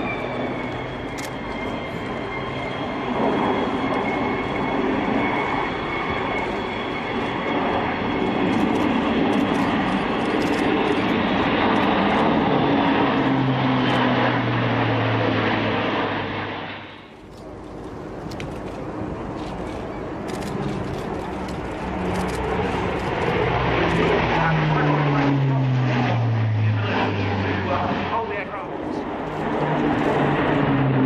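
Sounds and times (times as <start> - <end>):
aircraft engine rumble: 0.0 - 31.0
high propeller whine: 0.0 - 31.0.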